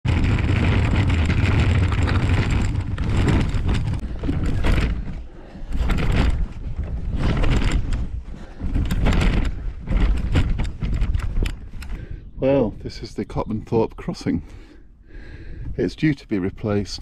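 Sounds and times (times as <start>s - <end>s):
wheelchair rolling on gravel: 0.1s - 14.1s.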